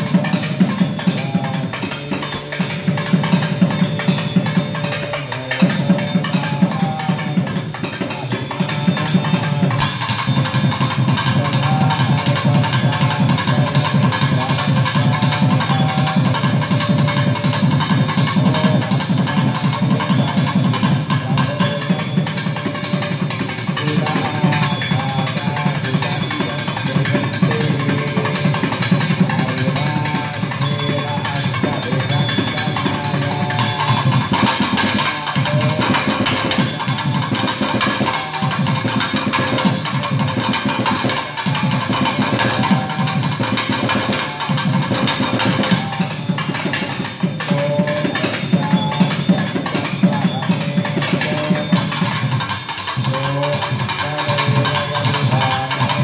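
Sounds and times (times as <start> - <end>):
drums played in fast strokes: 0.0 - 56.0.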